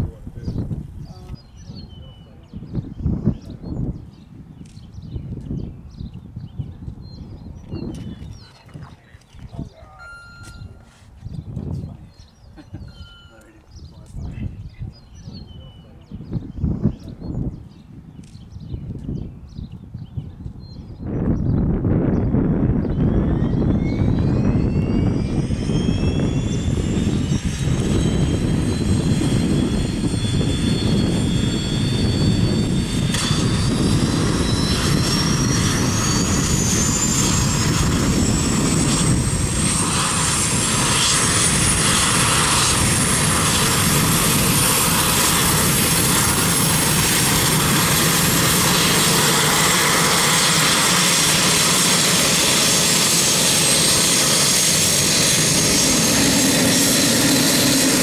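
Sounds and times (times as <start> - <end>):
turboprop engine whine: 0.0 - 58.0.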